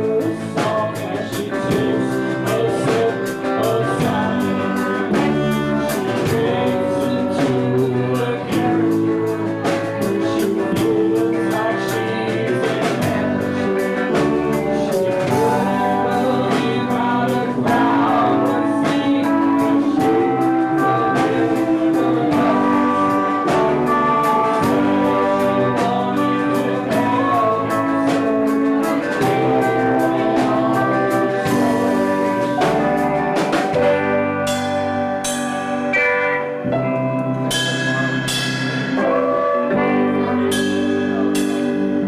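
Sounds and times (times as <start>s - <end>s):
accented band stabs ringing: 0.0s - 42.0s
live band playing: 0.0s - 42.0s.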